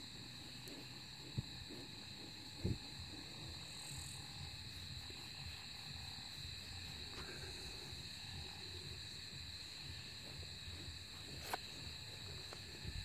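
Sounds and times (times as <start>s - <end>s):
night insects chorus: 0.0s - 13.0s.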